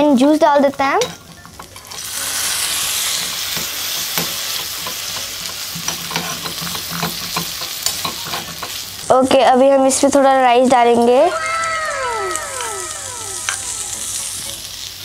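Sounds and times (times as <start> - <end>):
juice sizzling in hot oil: 0.0 - 15.0.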